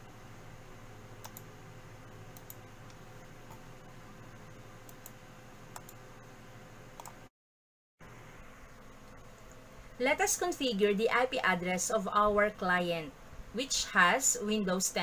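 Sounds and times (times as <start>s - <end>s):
faint steady hum: 0.0s - 7.3s, 8.0s - 15.0s.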